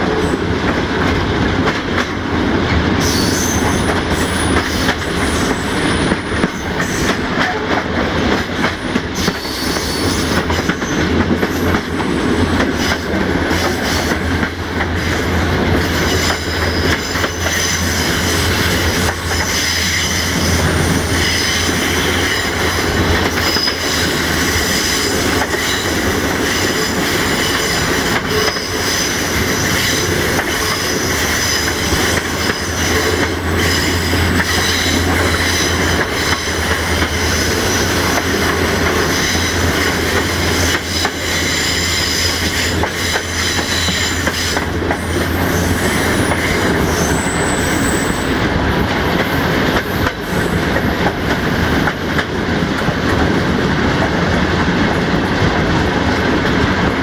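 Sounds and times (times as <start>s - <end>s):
train rumbling: 0.0s - 57.0s
wheels clacking over rail joints: 0.1s - 47.3s
train wheels squealing on rails: 2.9s - 52.2s.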